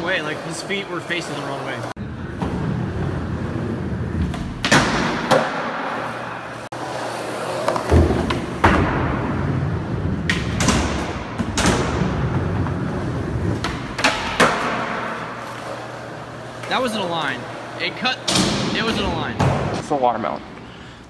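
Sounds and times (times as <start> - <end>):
skateboard wheels rolling: 0.0 - 18.0.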